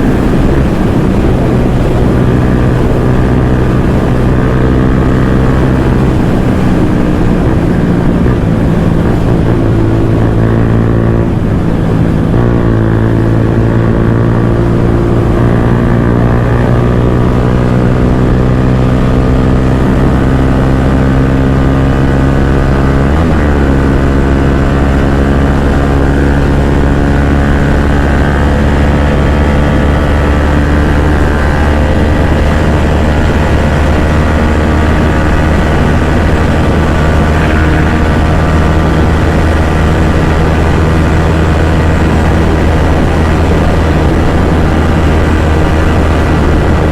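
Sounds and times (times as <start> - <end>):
motorcycle engine at full throttle: 0.0 - 46.9.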